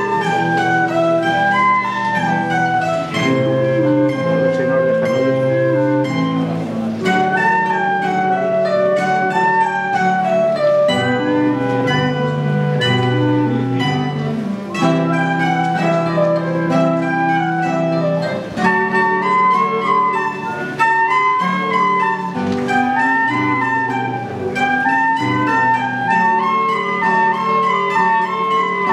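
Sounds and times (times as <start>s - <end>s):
flute melody: 0.0s - 28.9s
mandolin plucking: 0.0s - 28.9s.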